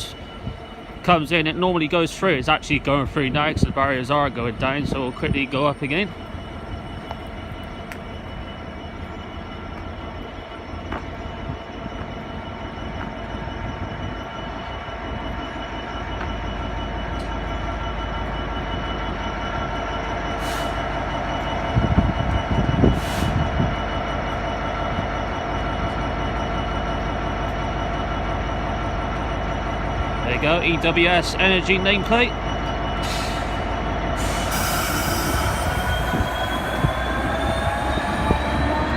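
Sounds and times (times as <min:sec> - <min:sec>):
diesel locomotive running: 0:00.0 - 0:38.9
train wagons rumbling: 0:00.0 - 0:38.9.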